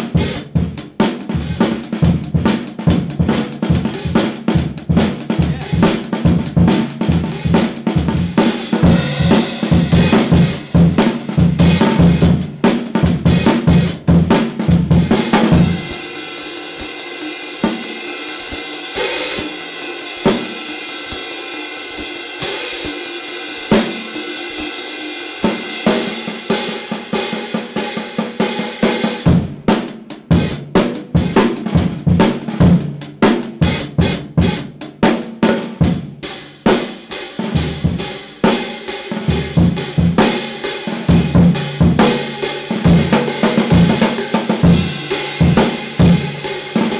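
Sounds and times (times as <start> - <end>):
drum kit groove: 0.0 - 46.9.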